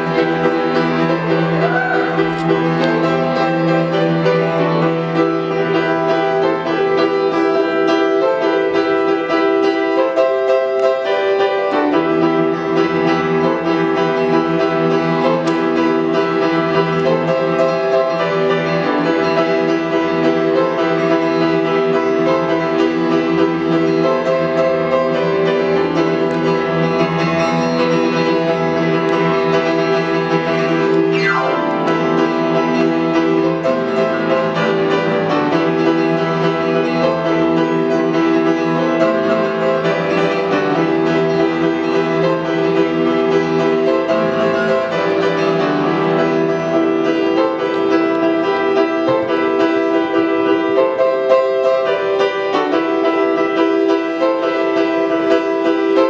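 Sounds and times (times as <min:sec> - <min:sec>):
piano chords: 0:00.0 - 0:56.0.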